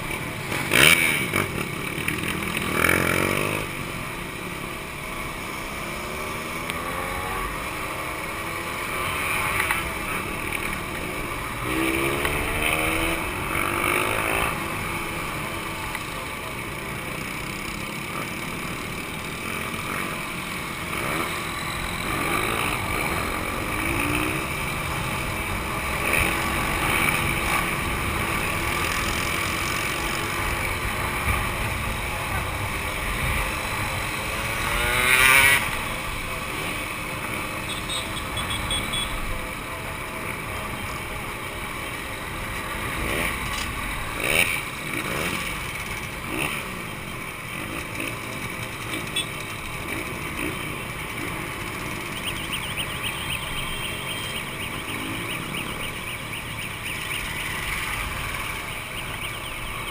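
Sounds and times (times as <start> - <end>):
two-stroke motorcycle engines revving: 0.0 - 59.9.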